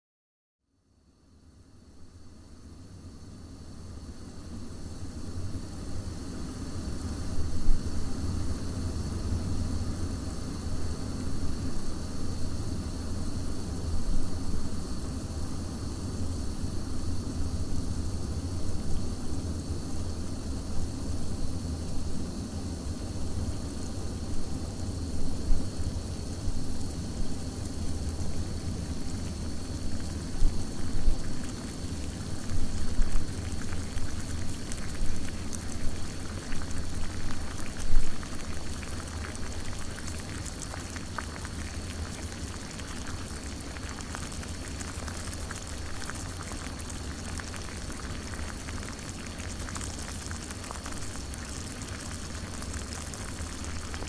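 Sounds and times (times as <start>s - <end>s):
water boiling in coffee pot: 2.0s - 54.0s.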